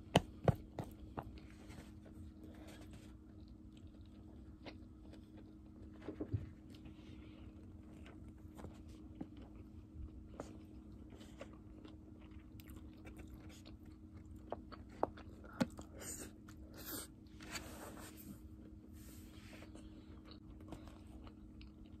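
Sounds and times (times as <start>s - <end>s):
close-up chewing: 0.0s - 17.3s, 19.5s - 22.0s.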